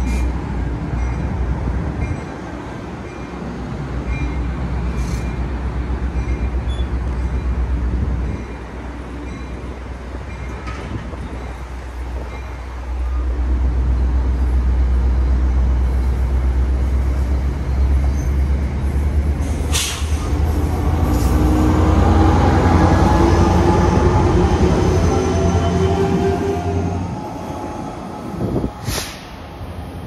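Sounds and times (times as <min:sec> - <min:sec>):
diesel locomotive engine drone: 0:00.0 - 0:30.0
train coaches rumbling past: 0:00.0 - 0:30.0.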